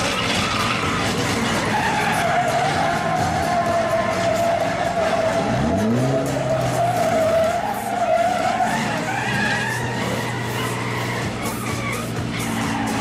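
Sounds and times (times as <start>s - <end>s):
diesel truck engine revving: 0.0s - 13.0s
tyre squeal: 0.0s - 13.0s
tyres skidding on wet asphalt: 0.0s - 13.0s.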